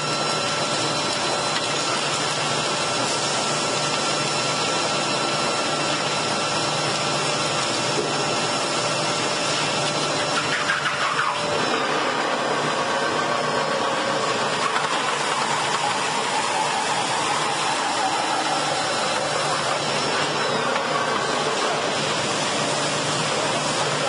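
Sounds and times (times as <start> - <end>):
log-processing machinery running: 0.0 - 24.0.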